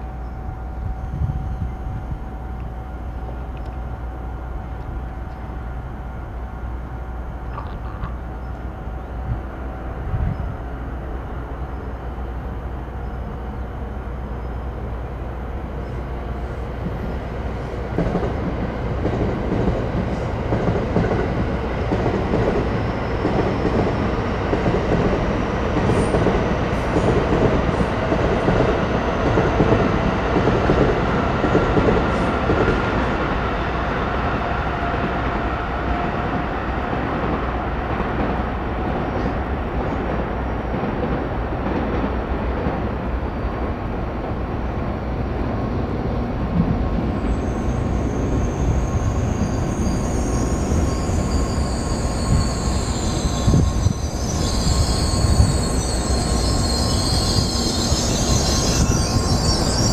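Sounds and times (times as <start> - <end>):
train arriving at station: 0.0 - 59.9.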